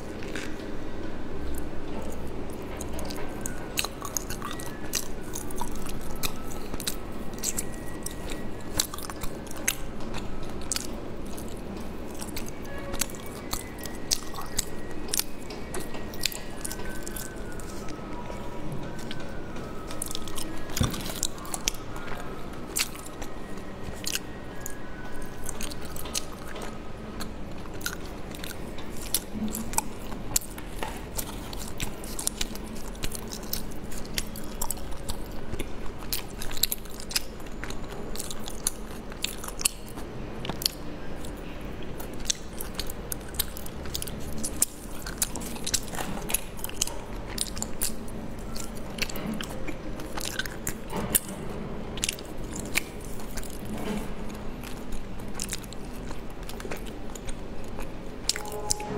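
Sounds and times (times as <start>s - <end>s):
biting and chewing: 0.0s - 58.9s.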